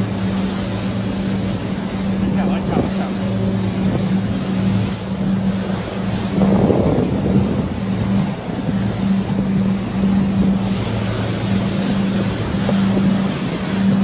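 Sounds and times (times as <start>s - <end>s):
boat engine humming: 0.0s - 14.0s
water noise: 0.0s - 14.0s
wind buffeting microphone: 0.0s - 14.0s.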